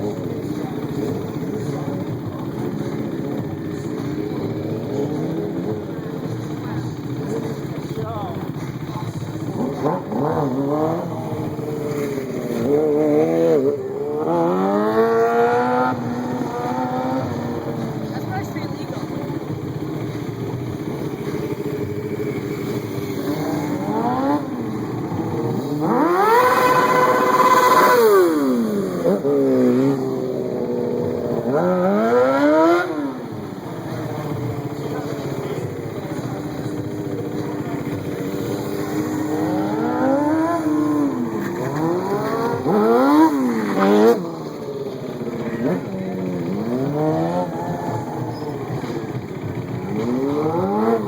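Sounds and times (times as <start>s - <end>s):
vehicle engine revving: 0.0s - 51.0s.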